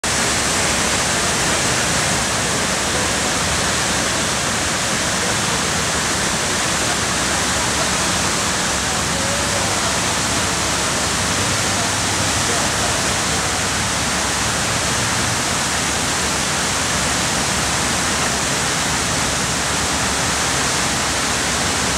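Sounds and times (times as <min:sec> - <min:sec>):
water cascading into a basin: 0:00.0 - 0:21.9.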